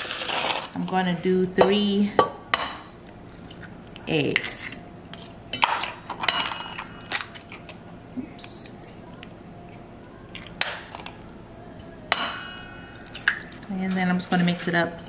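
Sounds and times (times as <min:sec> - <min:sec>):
eggs cracking on metal bowl: 0:00.0 - 0:14.8.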